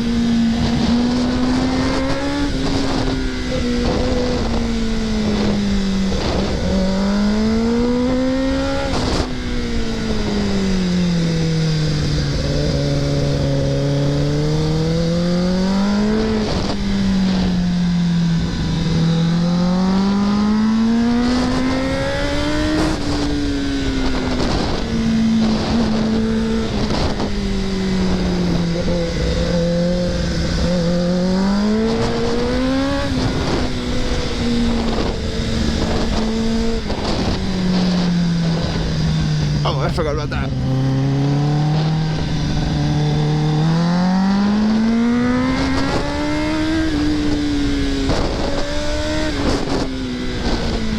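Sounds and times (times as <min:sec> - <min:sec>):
motorcycle engine revving: 0:00.0 - 0:50.9
wind rush: 0:00.0 - 0:50.9.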